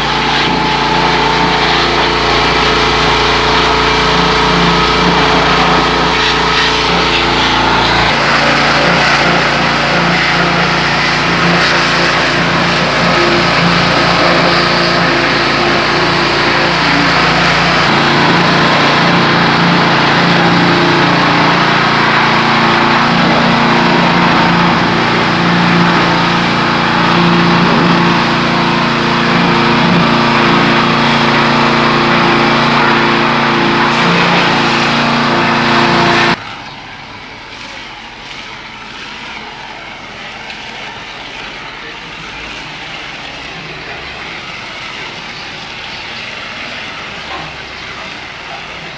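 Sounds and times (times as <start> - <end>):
pressure washer running: 0.0 - 48.9.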